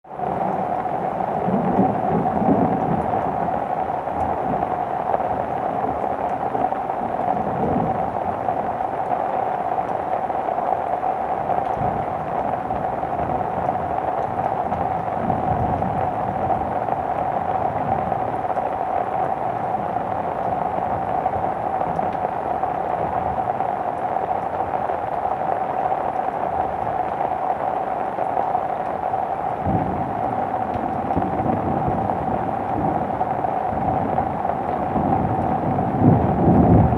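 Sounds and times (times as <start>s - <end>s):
heavy rain falling: 0.0s - 36.9s
low rumble of thunder: 0.2s - 10.0s, 10.8s - 36.9s.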